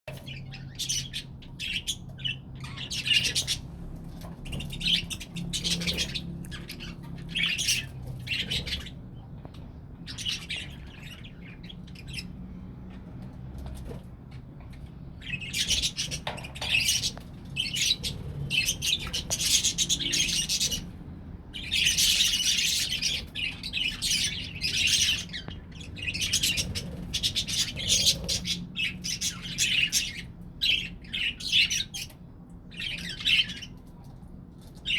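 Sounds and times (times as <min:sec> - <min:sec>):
budgerigars chattering and chirping: 0:00.1 - 0:09.3, 0:10.0 - 0:12.4, 0:14.7 - 0:33.8.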